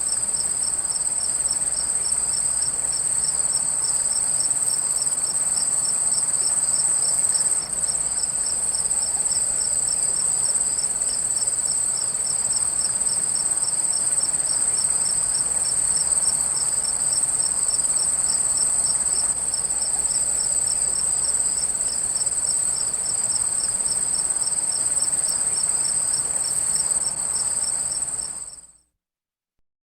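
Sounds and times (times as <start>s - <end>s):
cricket rapid pulsing chirp: 0.0s - 28.8s.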